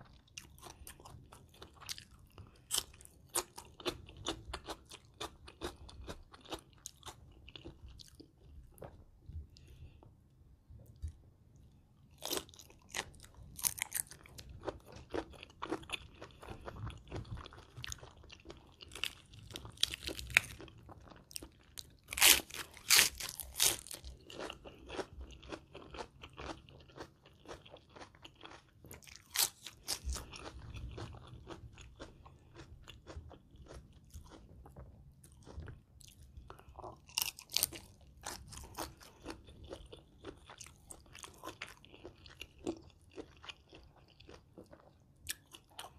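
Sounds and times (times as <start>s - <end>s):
crunchy chewing: 0.0s - 9.8s, 12.0s - 45.9s.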